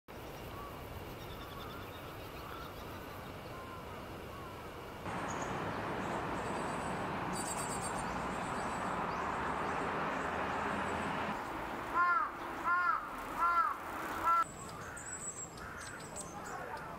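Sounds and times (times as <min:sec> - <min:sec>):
small birds chirping: 0:00.1 - 0:16.9.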